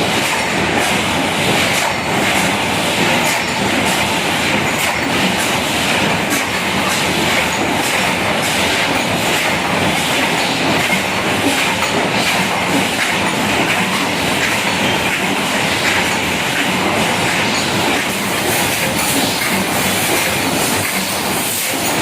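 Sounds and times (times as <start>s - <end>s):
machine mechanical clatter: 0.0s - 22.0s.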